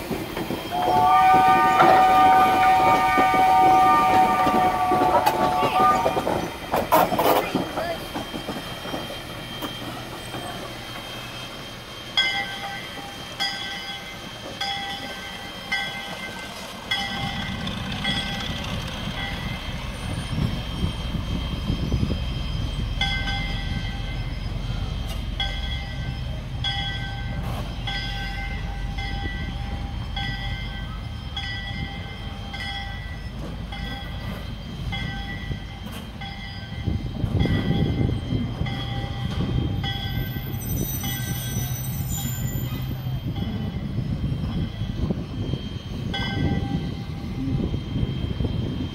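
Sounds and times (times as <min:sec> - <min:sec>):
train engine and wheels rumbling: 0:00.0 - 0:48.9
locomotive bell ringing: 0:00.7 - 0:48.9.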